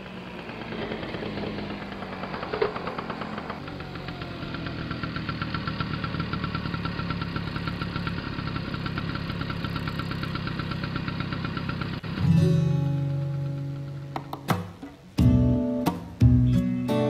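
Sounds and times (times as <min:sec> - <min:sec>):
auto-rickshaw engine idling: 0:00.0 - 0:16.6.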